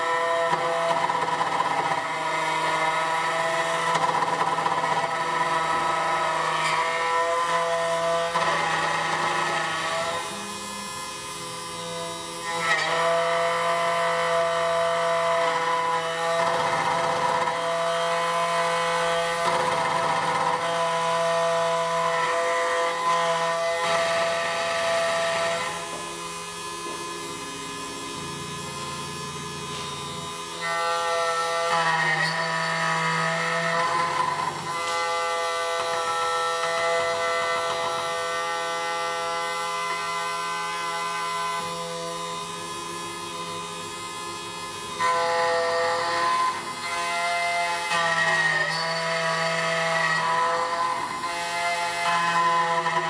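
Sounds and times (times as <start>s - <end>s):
machine cutting noise: 0.0s - 53.0s.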